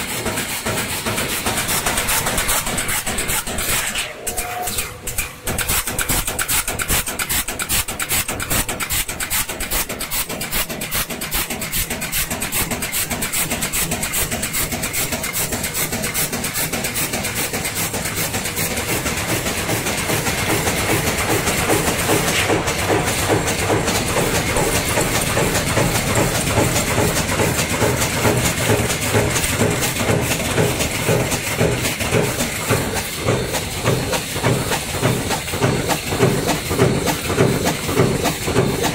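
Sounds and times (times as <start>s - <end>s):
stamping machinery clatter: 0.0s - 38.9s.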